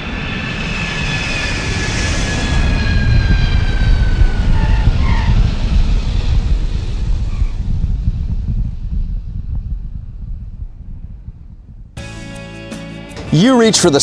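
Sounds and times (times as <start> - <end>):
deep aircraft rumble: 0.0 - 12.0
aircraft engine whine: 0.0 - 14.0.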